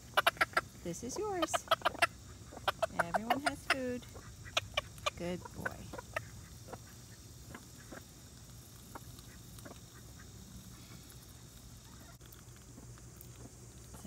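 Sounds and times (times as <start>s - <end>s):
chickens clucking: 0.0s - 13.6s
chickens pecking: 0.0s - 14.0s.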